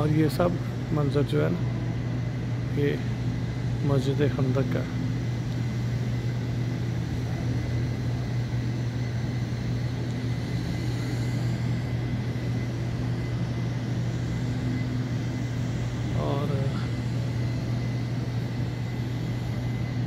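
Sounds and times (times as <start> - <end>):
air conditioning hum: 0.0 - 20.0
faint high whine: 0.0 - 20.0.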